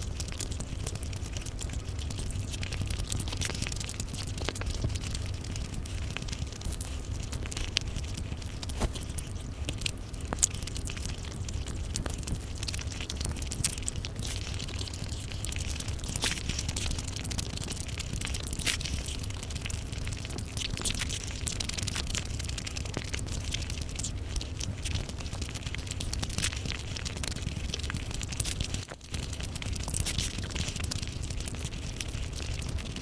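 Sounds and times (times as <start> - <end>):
steady low hum: 0.0 - 33.0
sticky squelches of food: 0.0 - 33.0
wet chewing and mouth smacking: 0.0 - 33.0.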